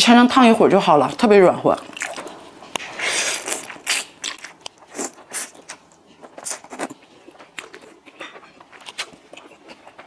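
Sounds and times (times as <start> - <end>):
wet chewing: 1.7 - 10.0.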